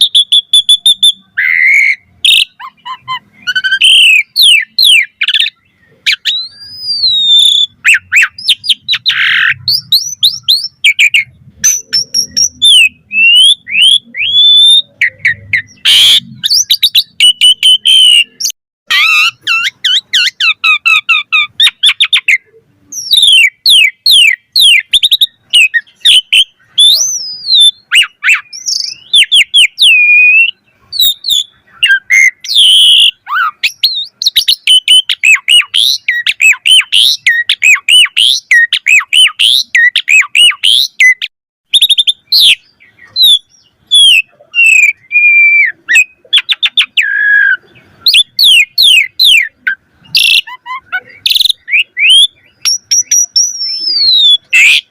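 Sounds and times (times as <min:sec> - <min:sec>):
starling singing: 0:00.0 - 0:54.9.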